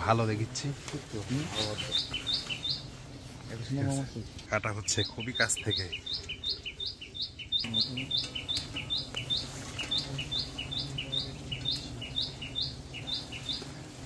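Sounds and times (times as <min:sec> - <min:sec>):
bird calling: 0:01.3 - 0:03.0, 0:03.6 - 0:14.0.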